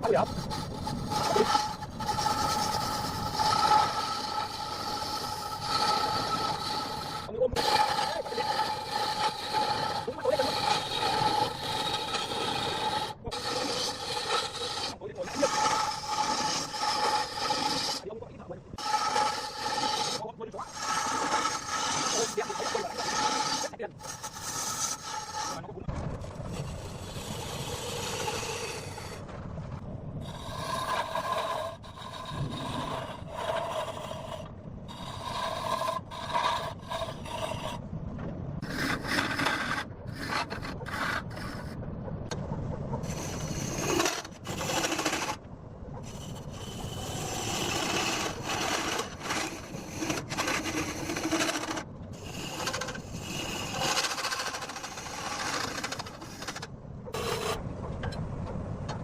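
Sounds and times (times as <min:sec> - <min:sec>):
lathe tool scraping wood: 0:00.0 - 0:29.3, 0:30.2 - 0:37.8, 0:38.6 - 0:41.8, 0:43.0 - 0:45.4, 0:46.0 - 0:57.6.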